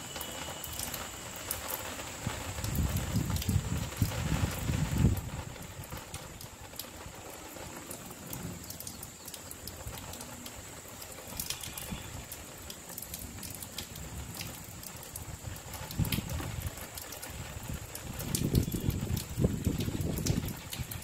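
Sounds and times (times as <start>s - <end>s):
faint steady hiss: 0.0s - 21.0s
raindrops pattering and dripping: 0.0s - 21.0s.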